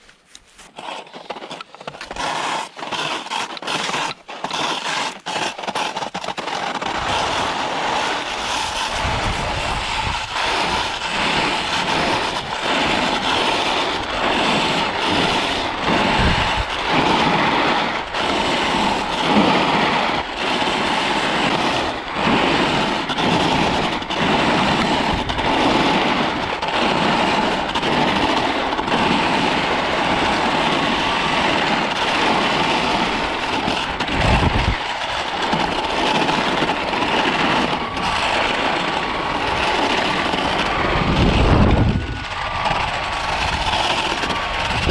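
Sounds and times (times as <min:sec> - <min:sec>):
skis scraping over hard snow: 0:00.0 - 0:44.9.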